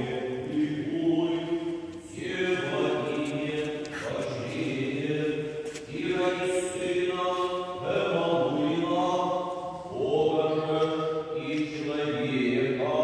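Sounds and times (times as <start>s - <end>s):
liturgical chant: 0.0s - 13.0s.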